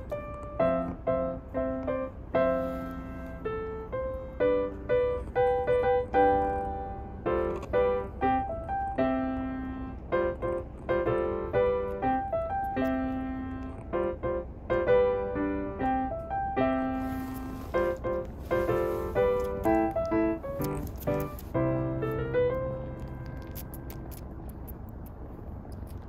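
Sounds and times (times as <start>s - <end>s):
piano melody: 0.0s - 25.8s.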